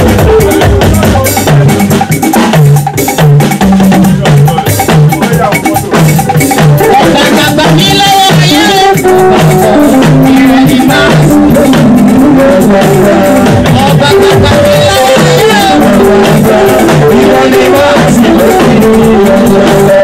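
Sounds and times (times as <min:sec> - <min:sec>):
upbeat music with drums and shakers: 0:00.0 - 0:20.0.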